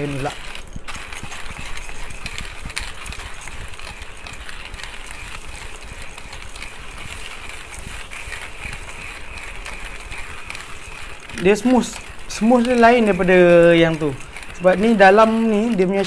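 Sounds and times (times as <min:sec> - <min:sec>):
hand coffee grinder crushing beans: 0:00.0 - 0:16.0.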